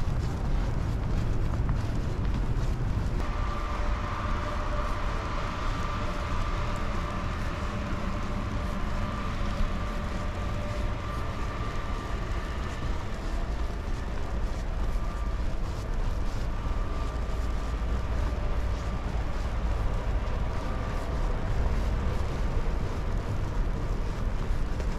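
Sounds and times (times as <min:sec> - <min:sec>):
faint high whine: 0:00.0 - 0:24.9
low vehicle rumble: 0:00.0 - 0:24.9.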